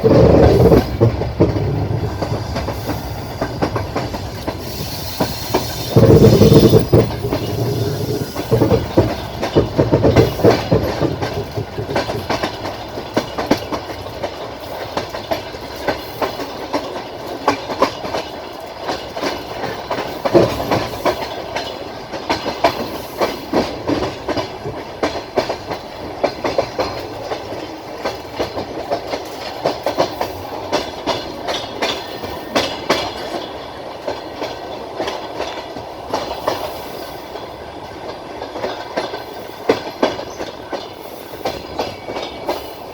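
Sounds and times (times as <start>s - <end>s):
rolling rumble of train: 0.0s - 42.9s
train wheels clattering over rails: 0.0s - 42.9s.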